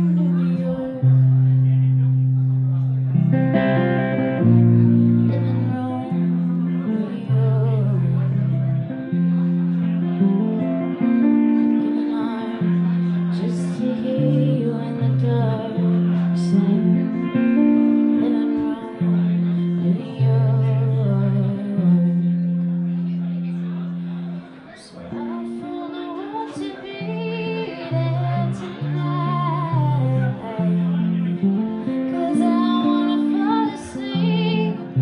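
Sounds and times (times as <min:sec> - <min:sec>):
electric guitar chords: 0:00.0 - 0:35.0.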